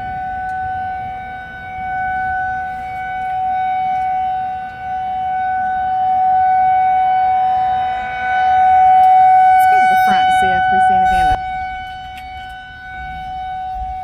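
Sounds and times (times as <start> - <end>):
tornado warning siren: 0.0 - 14.0.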